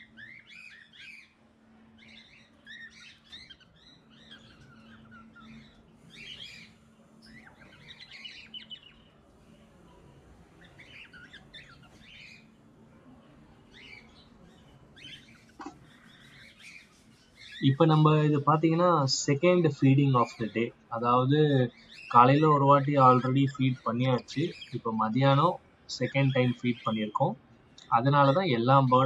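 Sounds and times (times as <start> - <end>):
parrots chirping: 0.0 - 29.0.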